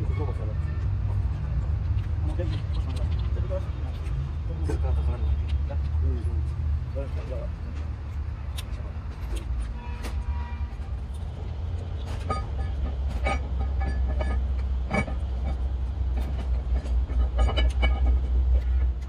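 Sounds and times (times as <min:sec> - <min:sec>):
low machinery rumble: 0:00.0 - 0:19.0.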